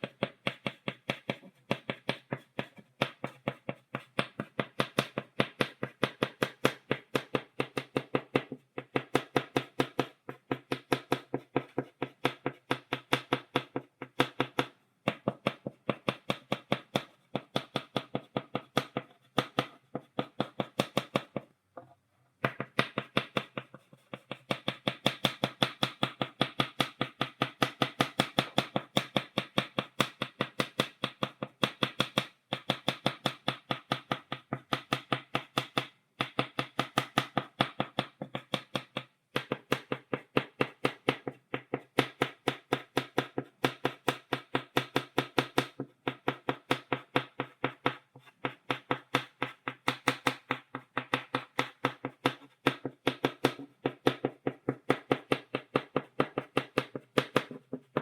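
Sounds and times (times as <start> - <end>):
chalk tapping on blackboard: 0.0 - 58.0.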